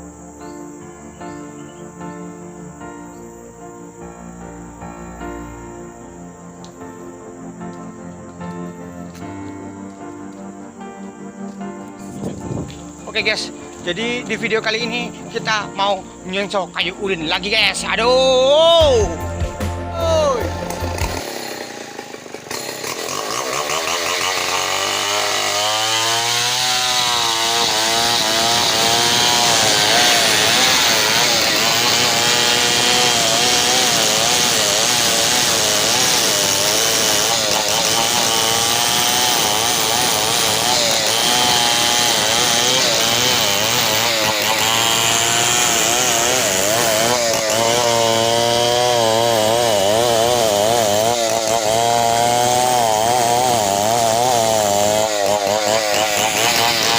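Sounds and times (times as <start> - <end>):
chainsaw cutting through log: 8.7 - 56.9.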